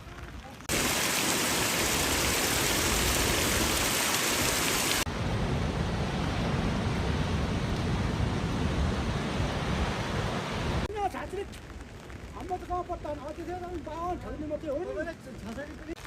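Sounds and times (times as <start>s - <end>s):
rain falling: 0.0s - 5.4s, 6.1s - 16.0s.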